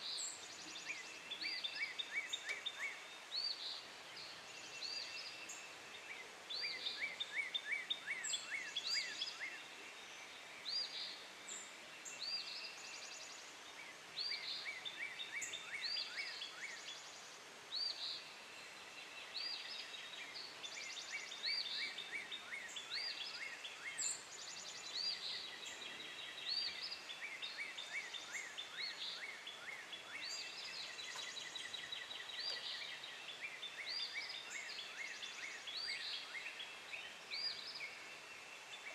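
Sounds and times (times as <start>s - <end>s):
birds singing and calling: 0.0s - 38.9s
faint background hiss: 0.0s - 38.9s.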